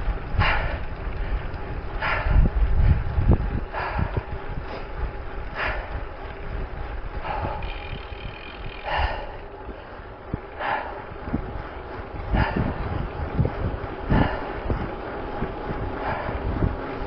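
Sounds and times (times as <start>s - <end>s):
cyclist breathing hard: 0.0s - 17.0s
wind rumble on microphone: 0.0s - 17.0s.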